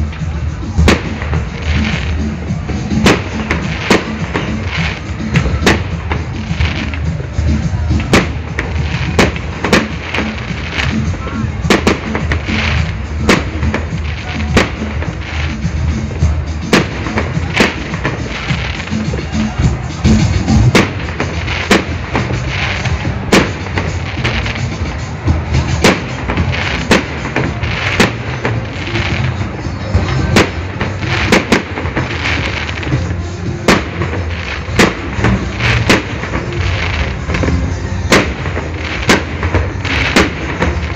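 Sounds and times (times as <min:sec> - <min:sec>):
music playing: 0:00.0 - 0:40.9
rumble and crackle of fireworks: 0:00.0 - 0:40.9.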